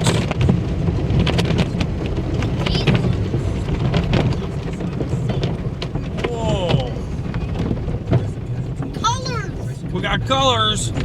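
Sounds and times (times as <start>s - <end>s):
low rumble of car wash: 0.0s - 11.0s.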